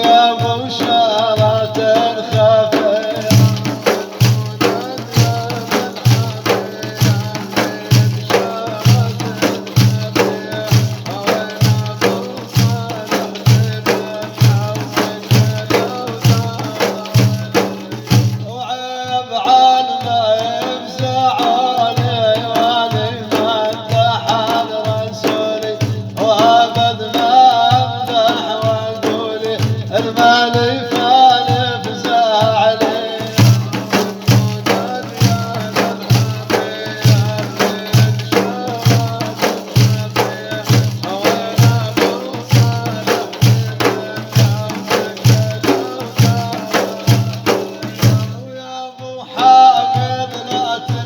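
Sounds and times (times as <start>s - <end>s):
low drum beat: 0.0s - 19.4s, 20.0s - 48.5s.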